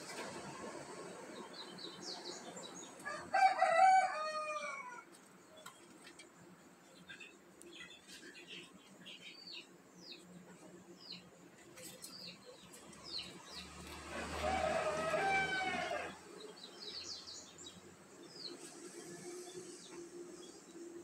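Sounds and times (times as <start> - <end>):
small birds chirping: 0.9 - 21.0.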